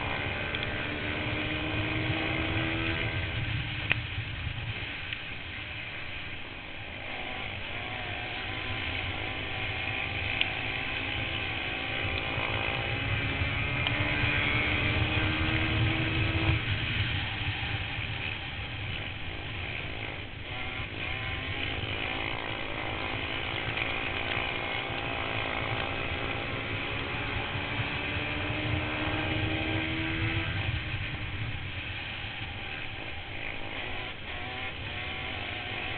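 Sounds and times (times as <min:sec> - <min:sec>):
racing quad engines: 0:00.0 - 0:35.9.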